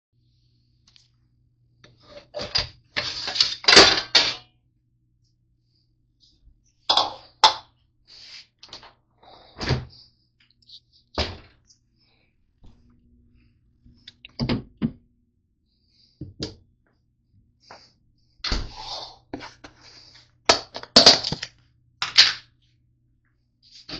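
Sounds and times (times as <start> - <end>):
low steady hum: 0.2 - 23.9.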